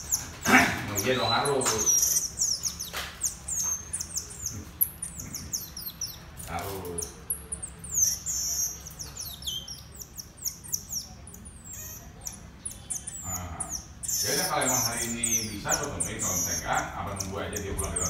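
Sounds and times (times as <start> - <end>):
monkeys chirping and whistling: 0.0 - 18.0.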